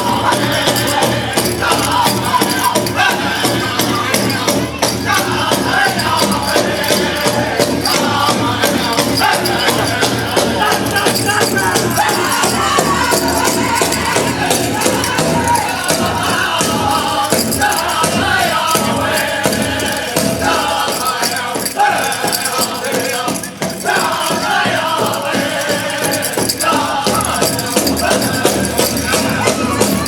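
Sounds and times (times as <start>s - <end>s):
shaken percussion: 0.0s - 30.0s.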